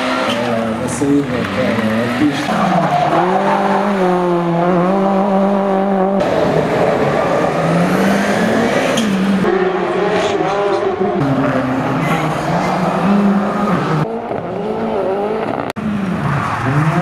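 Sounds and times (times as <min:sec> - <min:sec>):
rally car engines at high revs: 0:00.0 - 0:17.0.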